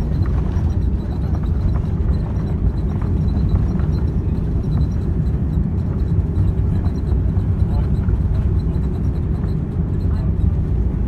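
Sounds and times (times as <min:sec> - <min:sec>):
jet engines reverse thrust rumble: 0:00.0 - 0:11.0.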